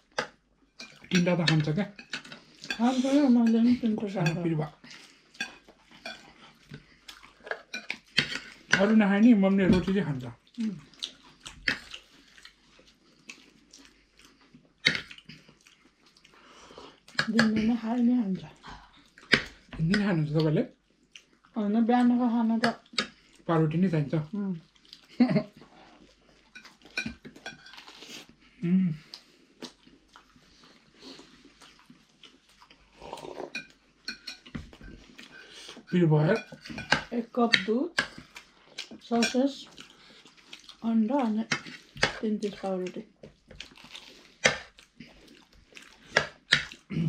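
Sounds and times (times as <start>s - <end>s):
person chewing: 4.2s - 8.9s, 10.2s - 17.6s, 18.5s - 21.6s, 22.6s - 23.5s, 24.4s - 47.0s.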